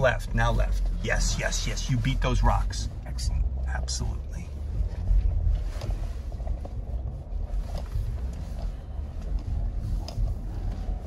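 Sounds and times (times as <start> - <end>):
engine and drivetrain rumble: 0.0 - 11.0.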